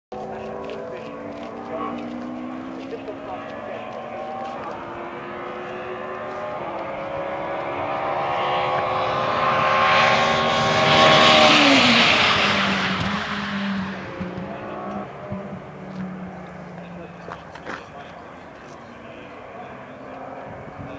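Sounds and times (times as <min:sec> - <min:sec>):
racing car passing by: 0:00.2 - 0:20.9.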